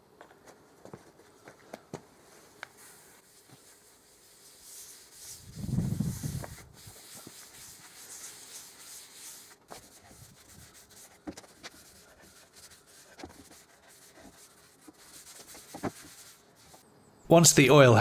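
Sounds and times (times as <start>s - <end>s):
cloth rubbing on wood: 2.3s - 16.8s.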